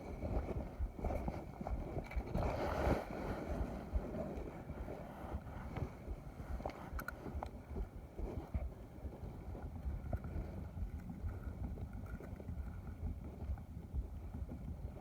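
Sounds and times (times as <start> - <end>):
outdoor ambience on water: 0.0 - 15.0
wind rumble on microphone: 0.0 - 15.0.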